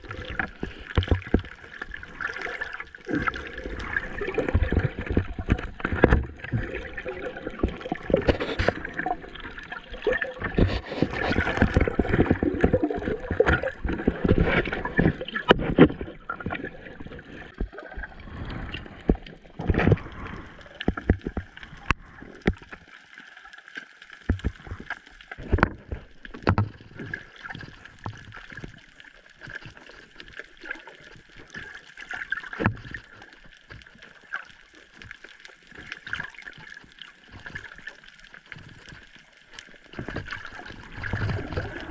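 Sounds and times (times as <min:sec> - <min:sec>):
muffled underwater water sloshing: 0:00.0 - 0:41.9.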